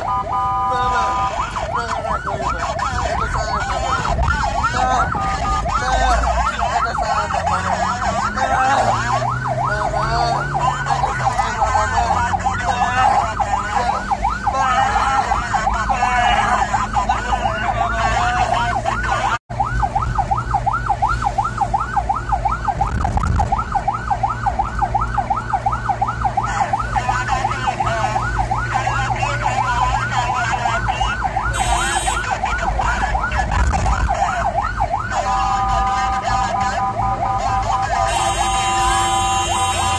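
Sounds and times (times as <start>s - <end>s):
siren yelping: 0.0s - 39.9s.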